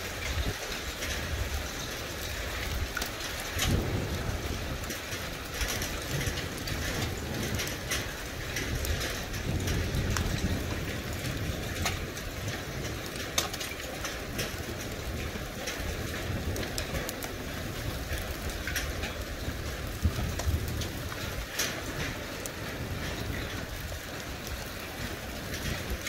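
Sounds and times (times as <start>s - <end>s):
hailstones clicking on surfaces: 0.0s - 26.0s
heavy rain and hail: 0.0s - 26.0s.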